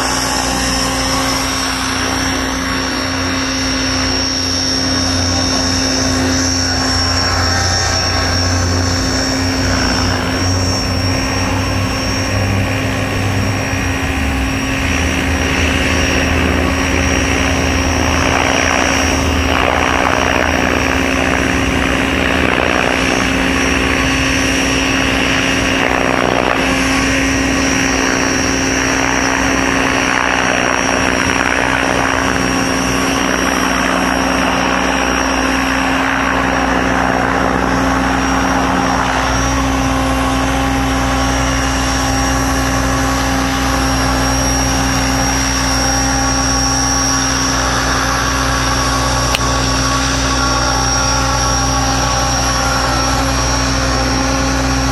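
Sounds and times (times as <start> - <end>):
rc helicopter rotor whirring: 0.0 - 54.9.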